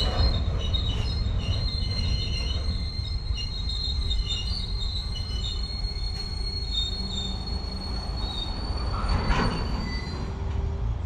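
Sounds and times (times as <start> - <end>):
high-pitched wheel squeal: 0.0 - 10.4
train wagons rumbling: 0.0 - 11.0.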